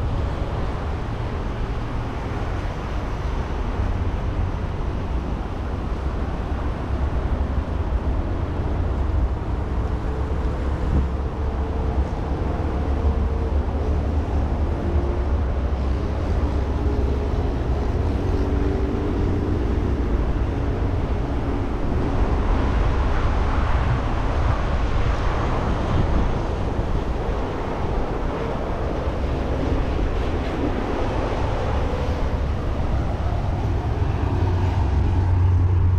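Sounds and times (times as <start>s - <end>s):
low traffic rumble: 0.0s - 35.9s
vehicle engines and tyres: 0.0s - 35.9s.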